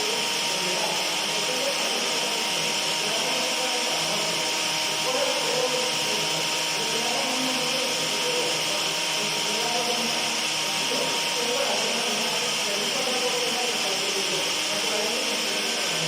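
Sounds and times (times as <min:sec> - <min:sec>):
blender whirring: 0:00.0 - 0:16.0.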